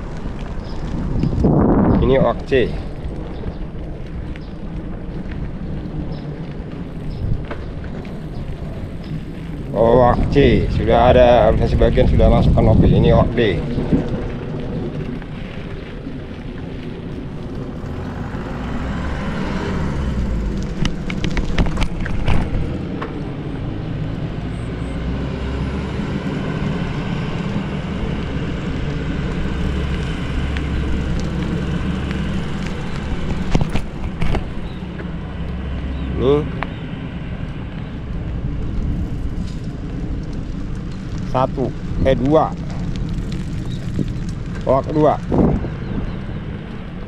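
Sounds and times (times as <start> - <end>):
bicycle tyre rumble: 0.0 - 47.0
wind rush on microphone: 0.0 - 47.0.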